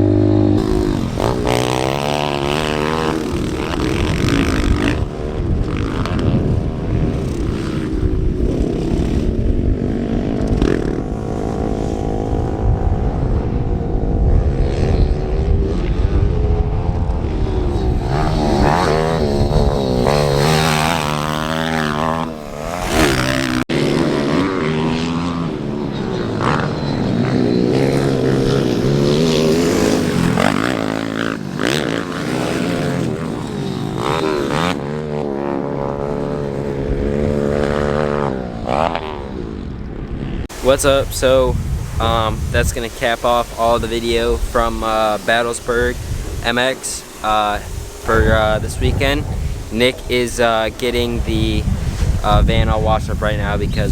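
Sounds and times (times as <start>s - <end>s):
pit bike engine revving: 0.0s - 53.9s.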